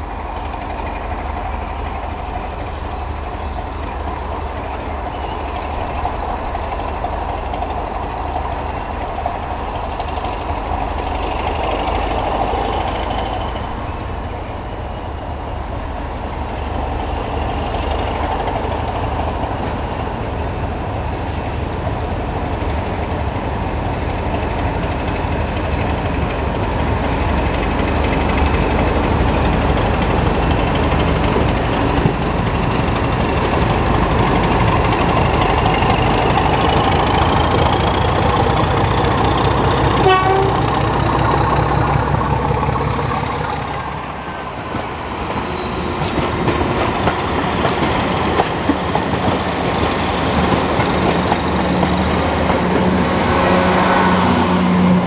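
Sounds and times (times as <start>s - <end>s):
diesel train engine rumbling: 0.0s - 55.0s.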